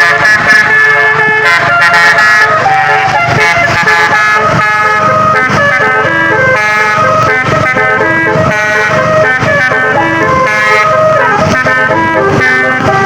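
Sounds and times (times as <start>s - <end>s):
bus musical horn playing a tune: 0.0s - 13.0s.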